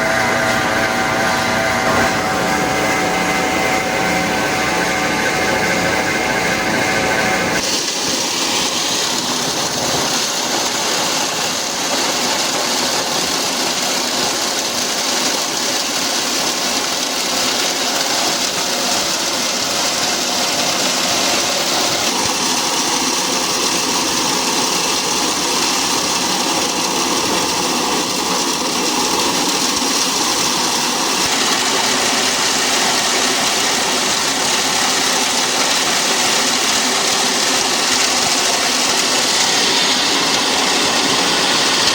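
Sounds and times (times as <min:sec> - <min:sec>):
factory machinery hissing: 0:00.0 - 0:41.9.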